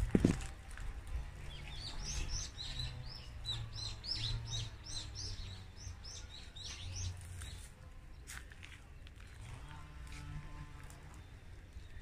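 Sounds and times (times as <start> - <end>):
songbird chirping: 0.2 - 12.0.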